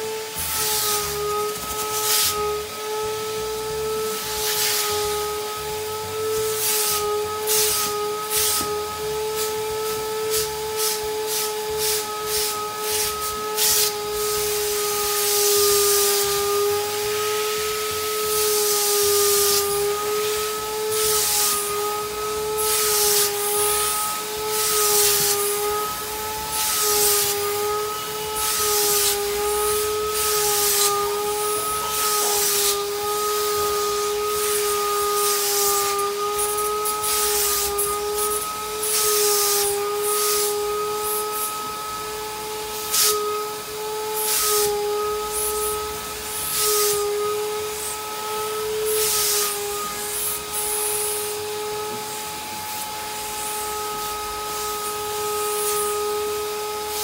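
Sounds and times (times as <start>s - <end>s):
vacuum nozzle hissing on upholstery: 0.0s - 57.0s
wet vacuum motor whine: 0.0s - 57.0s.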